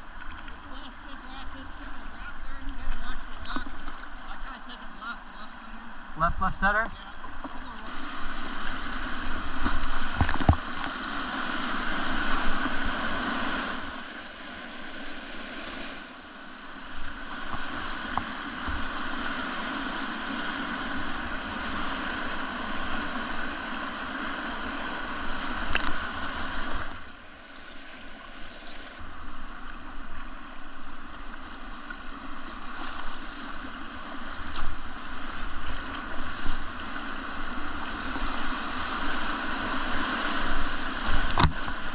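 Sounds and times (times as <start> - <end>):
whitewater rushing and splashing: 0.0 - 41.9.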